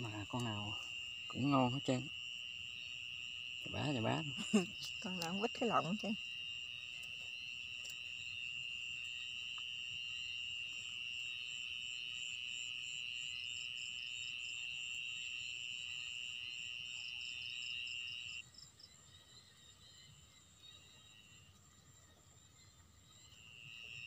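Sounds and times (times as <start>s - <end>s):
crickets trilling: 0.0s - 24.0s
insect pulsing chirp: 0.0s - 24.0s.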